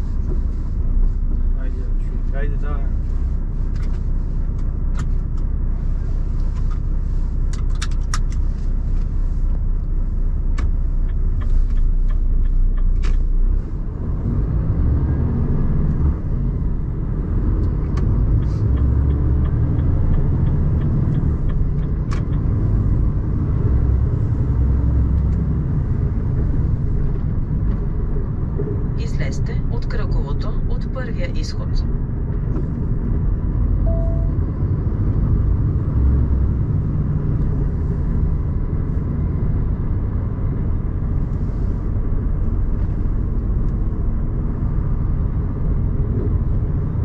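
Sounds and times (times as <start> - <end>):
road noise: 0.0 - 47.0
truck diesel engine rumble: 0.0 - 47.0.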